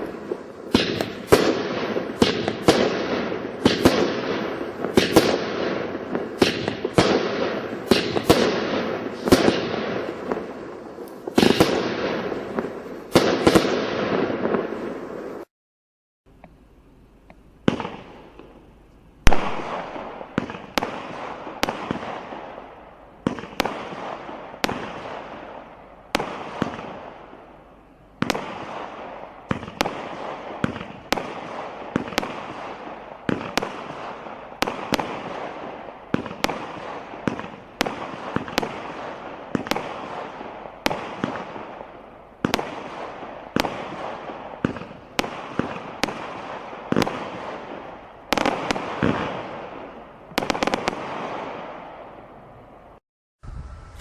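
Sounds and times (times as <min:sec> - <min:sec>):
fireworks bangs: 0:00.0 - 0:15.5, 0:17.6 - 0:54.0.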